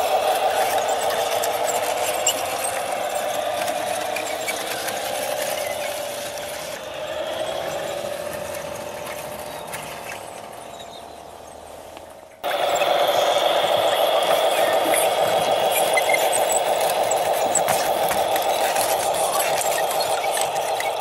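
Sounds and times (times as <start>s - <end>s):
toy truck drive whine: 0.0s - 21.0s.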